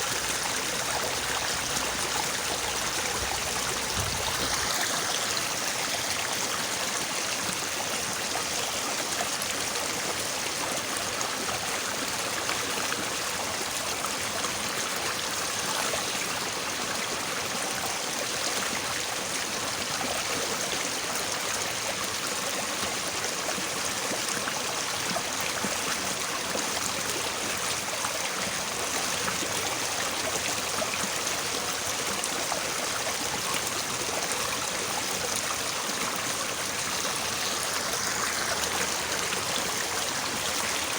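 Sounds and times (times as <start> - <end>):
stream babbling: 0.0 - 40.9.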